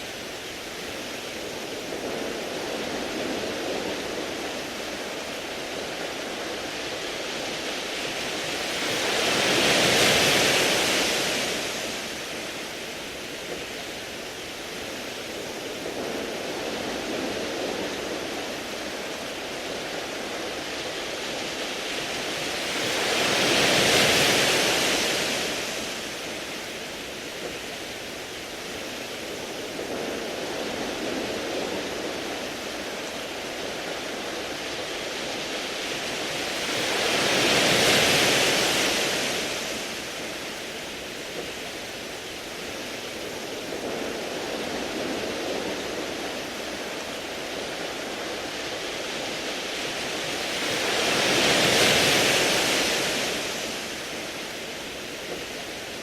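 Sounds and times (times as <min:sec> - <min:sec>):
waves on pebble beach: 0:00.0 - 0:56.0.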